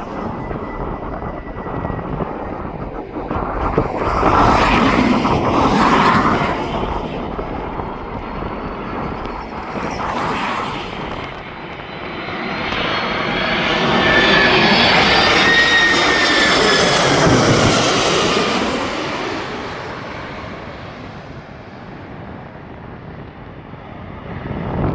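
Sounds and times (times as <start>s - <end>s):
high jet engine whine: 0.0s - 24.9s
jet engines rushing: 0.0s - 24.9s.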